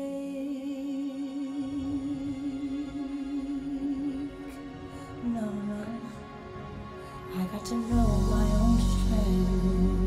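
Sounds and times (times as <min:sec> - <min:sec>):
slow lyrical music: 0:00.0 - 0:10.0.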